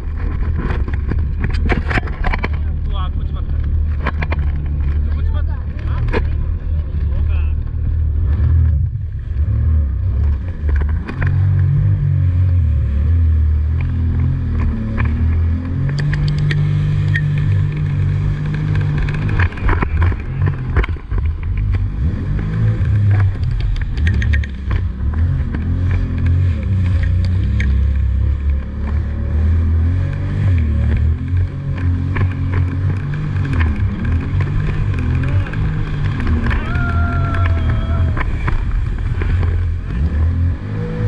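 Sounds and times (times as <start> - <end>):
jet ski engine running: 0.0 - 41.0.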